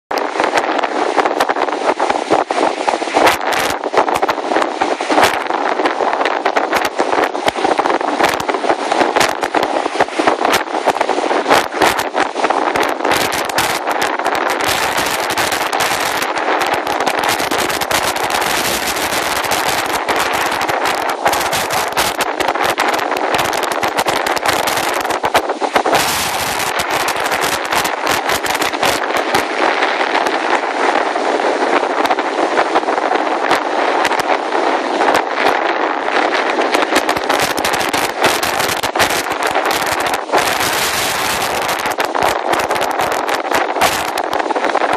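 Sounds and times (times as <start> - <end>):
heavy surf breaking: 0.1 - 44.9
hurricane wind: 0.1 - 44.9
wind buffeting microphone: 0.1 - 44.9.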